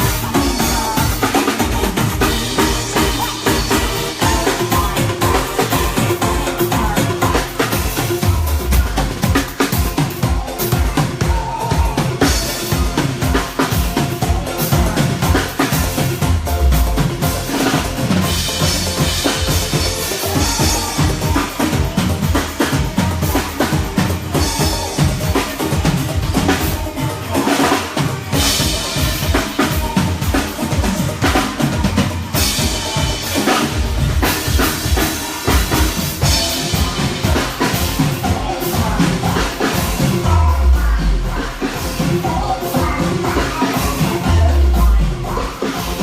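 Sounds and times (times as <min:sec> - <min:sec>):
band instruments: 0:00.0 - 0:46.0
drum kit playing: 0:00.0 - 0:46.0.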